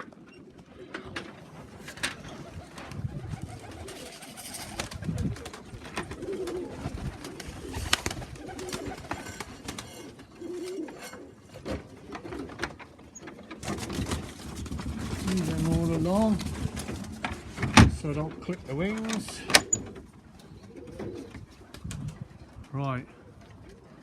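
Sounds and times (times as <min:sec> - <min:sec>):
pigeons cooing: 0:00.1 - 0:24.0.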